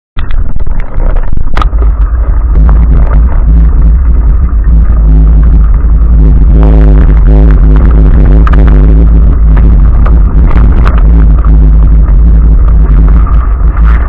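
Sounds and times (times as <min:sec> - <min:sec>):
off-road vehicle engine rumble: 0:00.2 - 0:14.0.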